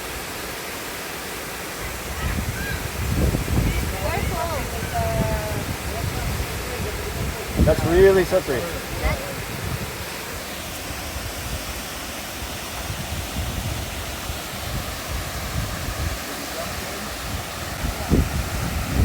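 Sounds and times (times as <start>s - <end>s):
waterfall rushing: 0.0s - 19.0s
wind buffeting microphone: 1.8s - 19.0s.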